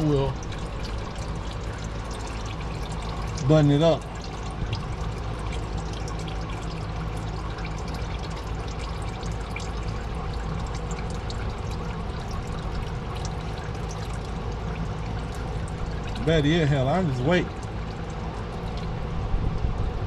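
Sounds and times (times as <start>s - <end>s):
oil pouring into drain pan: 0.0s - 19.1s.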